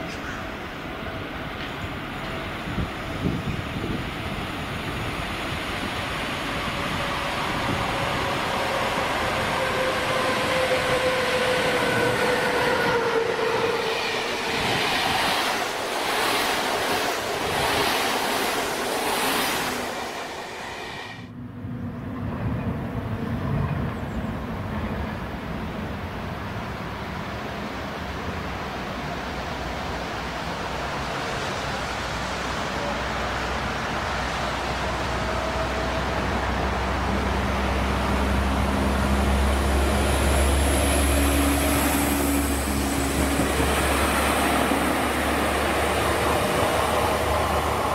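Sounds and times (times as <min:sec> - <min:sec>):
low train rumble: 0:00.0 - 0:47.9.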